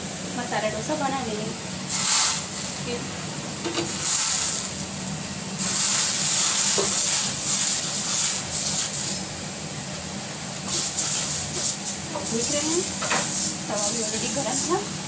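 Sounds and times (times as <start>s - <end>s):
batter sizzling on hot griddle: 0.0s - 15.0s.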